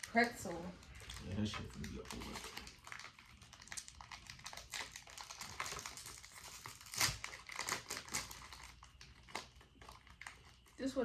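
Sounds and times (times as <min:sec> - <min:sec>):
plastic snack packet crinkling: 0:00.0 - 0:11.0.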